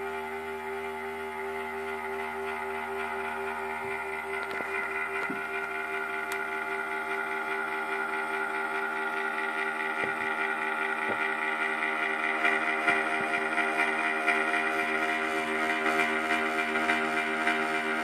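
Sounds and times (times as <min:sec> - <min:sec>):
power supply whirring hum: 0:00.0 - 0:18.0.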